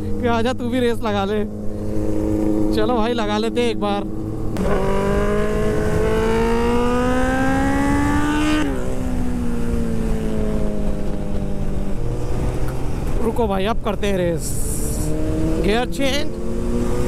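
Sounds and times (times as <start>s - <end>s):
motorcycle engine accelerating hard: 0.0s - 13.4s, 14.5s - 17.0s.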